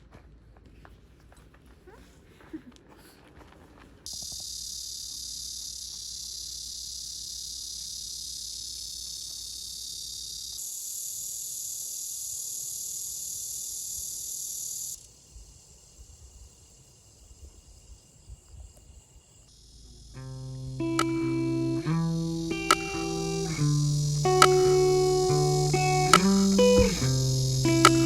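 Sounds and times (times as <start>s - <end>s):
cicadas buzzing: 4.1s - 28.0s.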